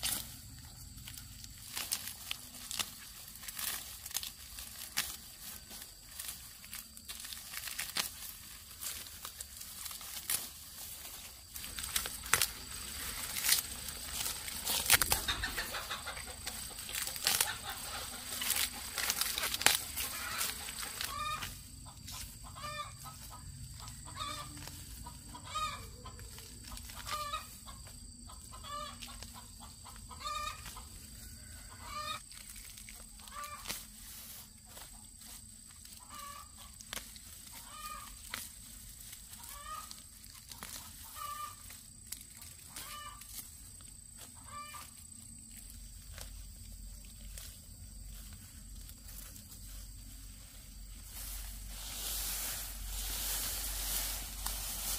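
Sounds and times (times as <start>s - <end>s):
chickens clucking: 3.5s - 54.9s.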